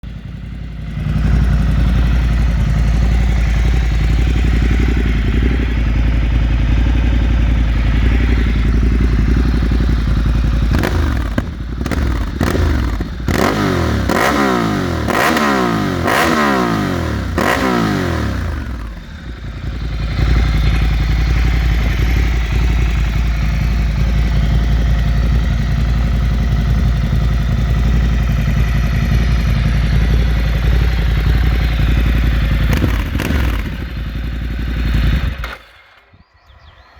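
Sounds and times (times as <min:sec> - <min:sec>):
motorcycle engine idling: 0:00.0 - 0:36.9
motorcycle throttle blips: 0:00.1 - 0:35.7.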